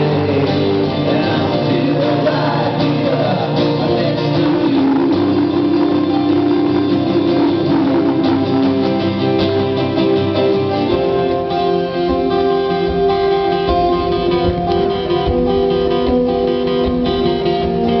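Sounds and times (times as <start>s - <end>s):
strummed guitar: 0.0s - 18.0s.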